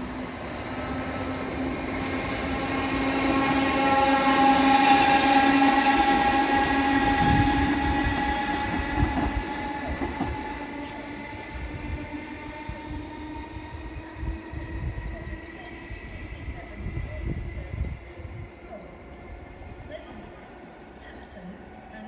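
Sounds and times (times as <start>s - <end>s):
passing train whine: 0.0s - 22.0s.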